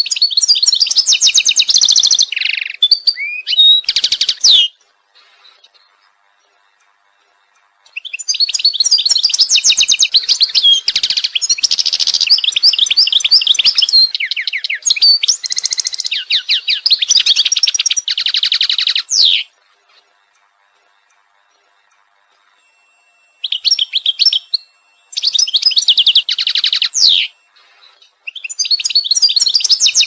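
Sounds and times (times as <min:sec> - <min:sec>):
songbird trilling and chirping: 0:00.0 - 0:05.9, 0:07.8 - 0:19.5, 0:23.3 - 0:30.0.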